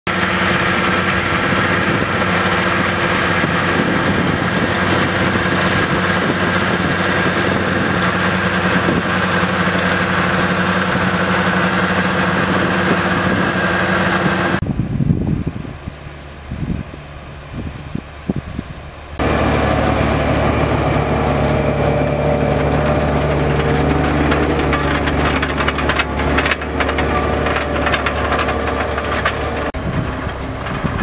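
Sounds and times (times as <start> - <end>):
tractor diesel engine running: 0.1 - 31.0.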